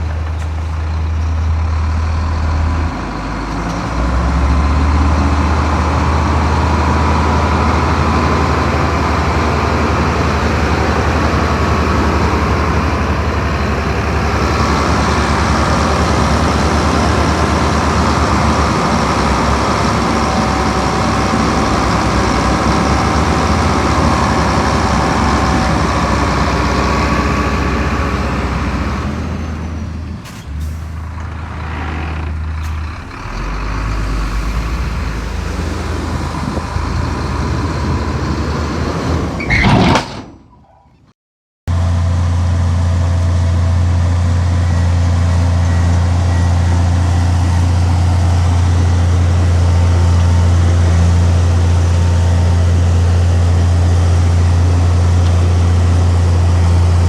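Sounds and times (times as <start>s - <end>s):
heavy diesel engine rumbling: 0.0s - 41.0s, 41.7s - 57.0s.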